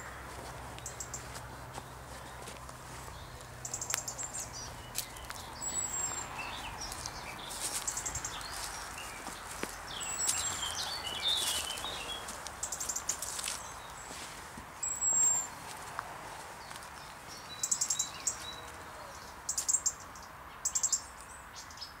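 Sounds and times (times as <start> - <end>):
footsteps on leaf litter: 0.0 - 18.8
small birds singing and chirping: 0.0 - 22.0.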